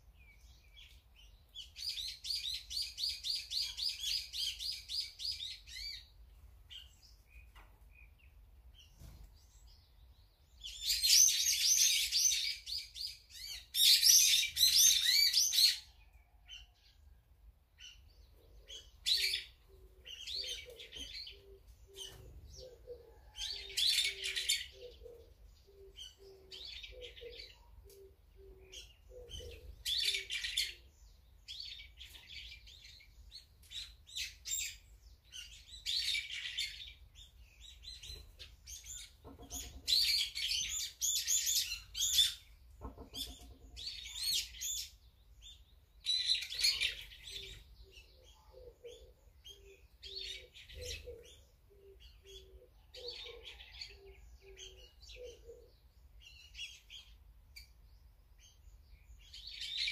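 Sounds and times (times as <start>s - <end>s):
songbirds chirping harshly: 0.0s - 59.9s.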